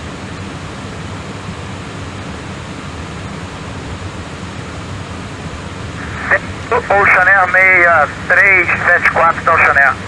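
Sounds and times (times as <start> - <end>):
jet engines idling: 0.0 - 10.0.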